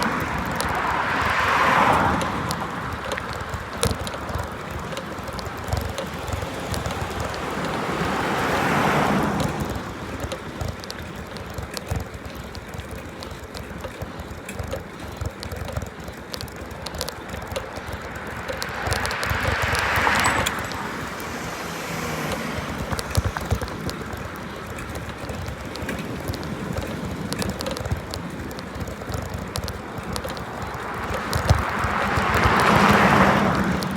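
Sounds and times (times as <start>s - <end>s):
small rattles and clicks: 0.0s - 33.9s
tyre and road rumble: 0.0s - 33.9s.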